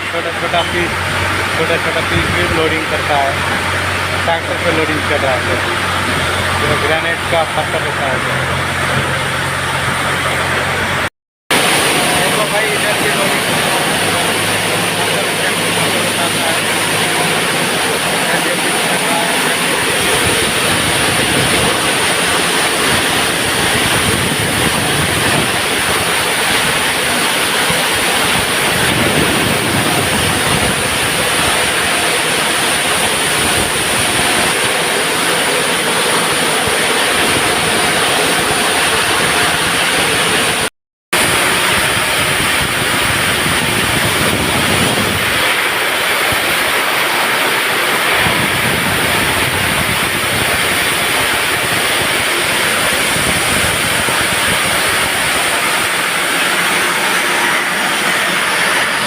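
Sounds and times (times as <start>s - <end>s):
heavy machinery running: 0.0s - 59.0s.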